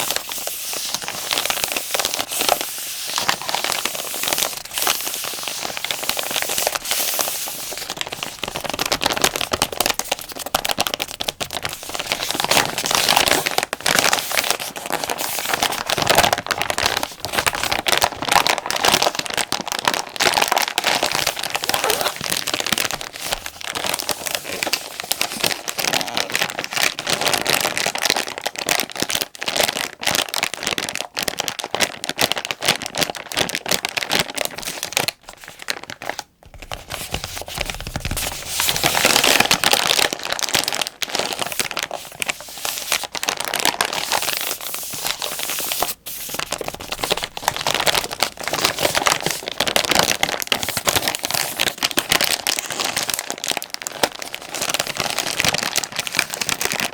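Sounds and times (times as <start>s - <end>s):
plastic pack crinkling: 0.0s - 56.9s.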